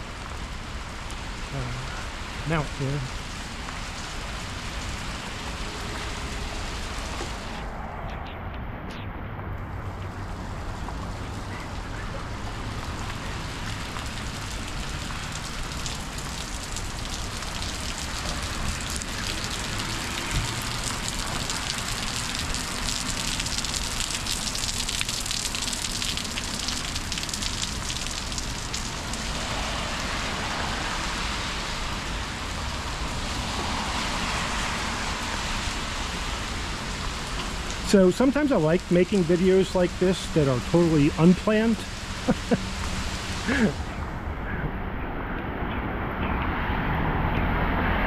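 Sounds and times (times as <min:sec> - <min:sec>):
rain hissing on street: 0:00.0 - 0:48.0.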